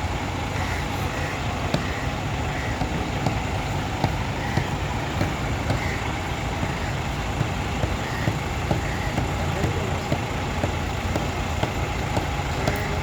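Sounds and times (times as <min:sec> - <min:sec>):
large vehicle engine rumbling: 0:00.0 - 0:13.0.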